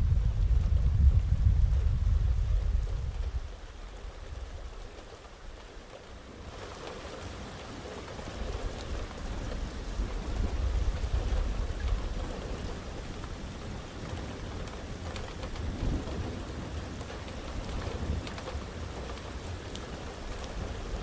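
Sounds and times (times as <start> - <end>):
low rumble of thunder: 0.0 - 5.8, 8.3 - 21.0
heavy rain falling: 0.0 - 21.0.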